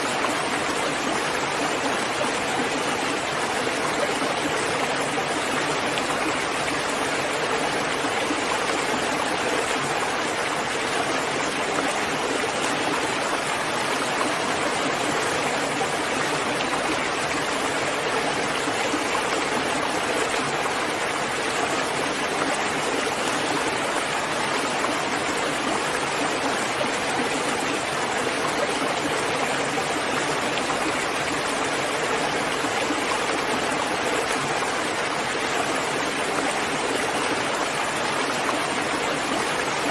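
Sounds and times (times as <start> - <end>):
rainfall: 0.0 - 39.9.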